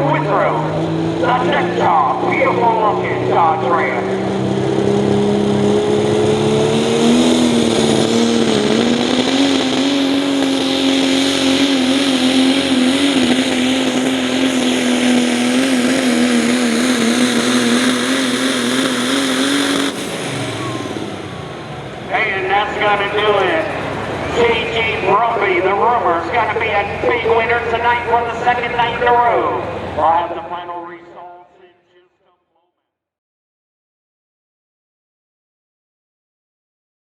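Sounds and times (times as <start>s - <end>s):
diesel truck engine at full throttle: 0.0s - 31.6s.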